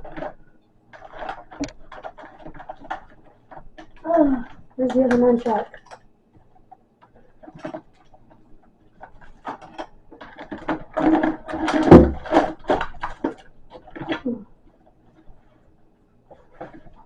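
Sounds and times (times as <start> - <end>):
objects clattering and knocking: 0.0 - 14.4, 16.3 - 17.0.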